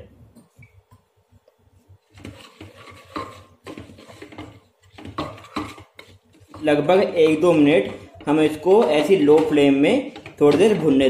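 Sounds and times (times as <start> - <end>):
spoon scraping a pressure cooker: 2.1 - 11.0.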